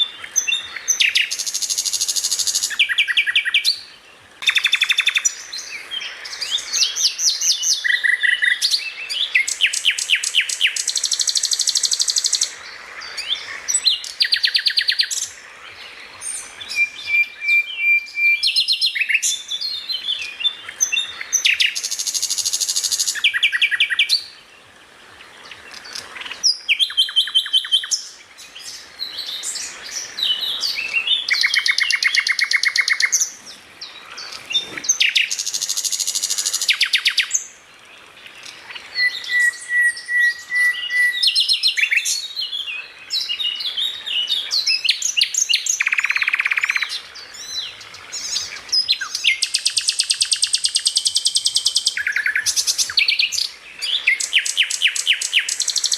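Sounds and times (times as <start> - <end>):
songbird singing trills: 0.0 - 24.6, 25.2 - 55.9.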